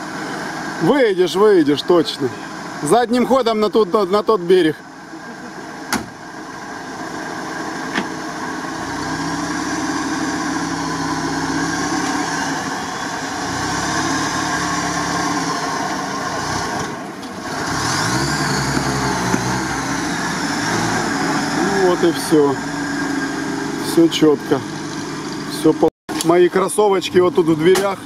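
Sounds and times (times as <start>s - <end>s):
engine running under load: 0.0s - 28.0s.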